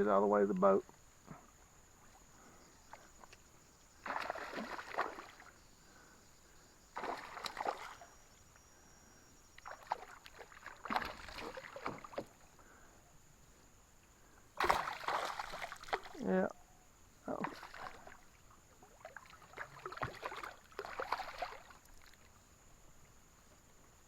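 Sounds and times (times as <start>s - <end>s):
water splashing around a boat: 0.9s - 8.9s, 9.5s - 13.0s, 14.2s - 16.5s, 17.3s - 23.7s.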